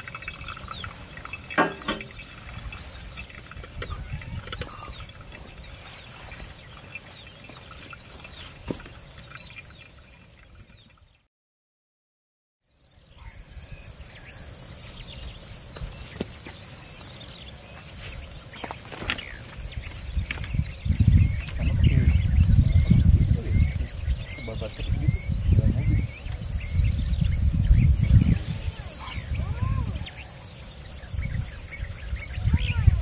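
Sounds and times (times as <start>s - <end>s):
insect chorus trilling: 0.0s - 11.2s, 12.7s - 33.0s
pulsed insect call: 0.0s - 11.2s, 12.7s - 33.0s.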